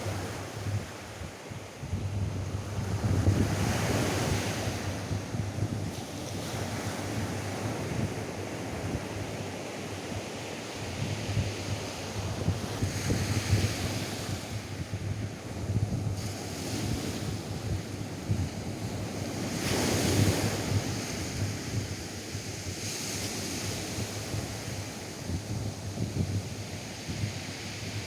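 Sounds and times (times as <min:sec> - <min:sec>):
wind buffeting microphone: 0:00.0 - 0:10.0, 0:10.8 - 0:28.0.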